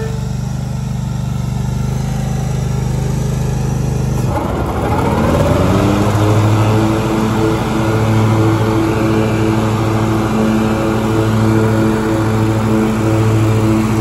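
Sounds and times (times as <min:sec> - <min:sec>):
mower engine running: 0:00.0 - 0:14.0.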